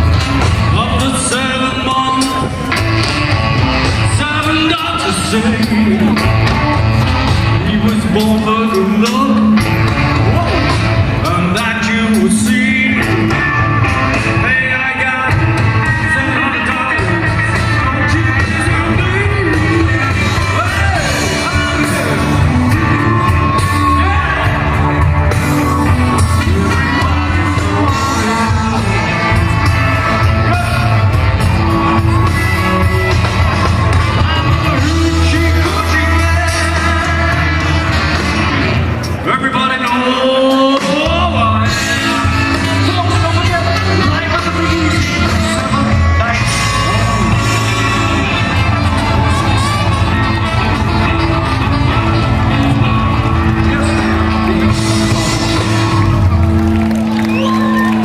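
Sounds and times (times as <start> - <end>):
person singing: 0.0 - 56.3
live blues band playing: 0.0 - 58.0.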